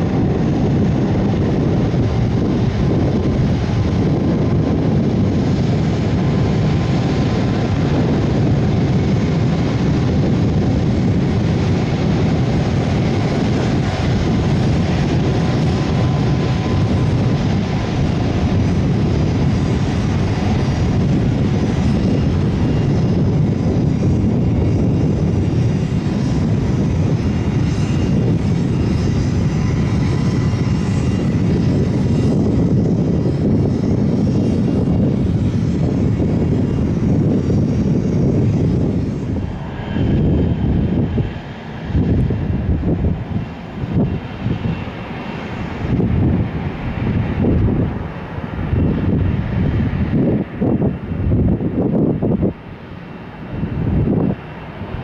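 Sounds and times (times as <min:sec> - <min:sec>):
jet engines low rumble: 0:00.0 - 0:55.0.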